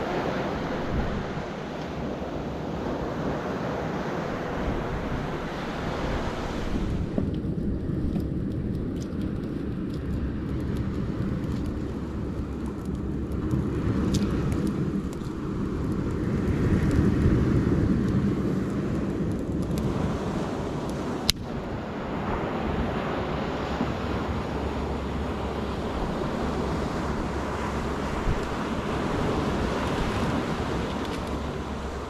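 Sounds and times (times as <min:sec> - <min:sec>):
low rumbling noise: 0:00.0 - 0:32.0
campfire crackles and pops: 0:04.3 - 0:32.0.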